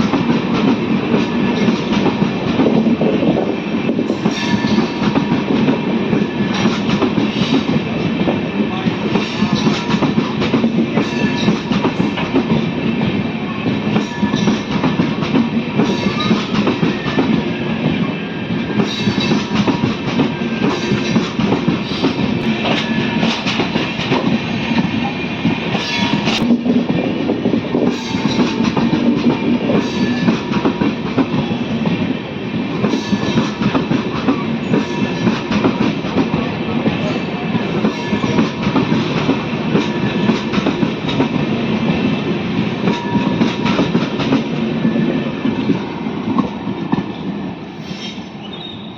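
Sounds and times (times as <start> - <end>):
train wheels rumbling and rattling: 0.0 - 48.9.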